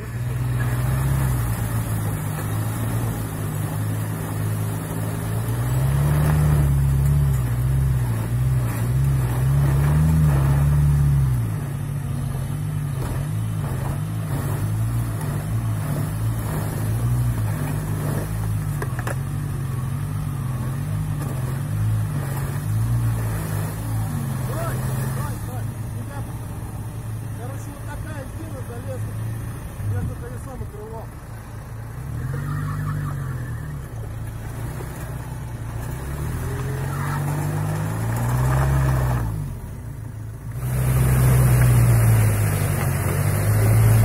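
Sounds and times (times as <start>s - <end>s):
suv engine running under load: 0.0s - 44.0s.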